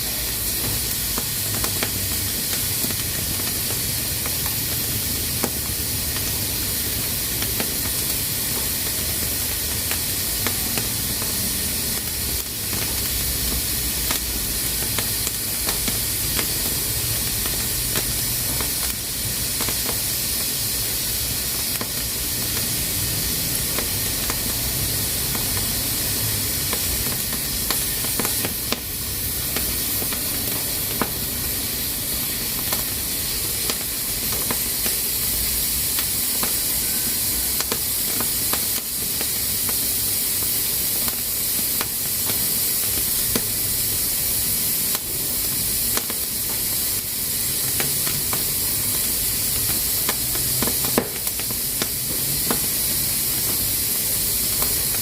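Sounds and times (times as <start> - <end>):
pressure cooker hissing: 0.0 - 55.0.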